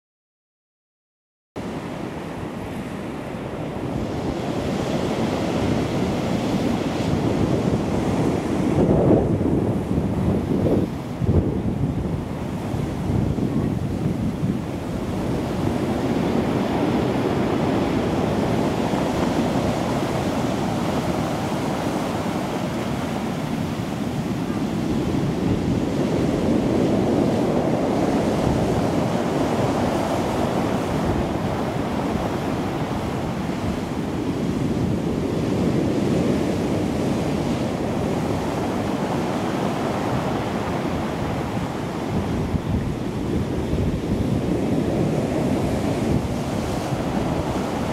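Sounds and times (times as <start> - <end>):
surf washing up stony beach: 1.6 - 47.9
wind buffeting microphone: 1.6 - 47.9.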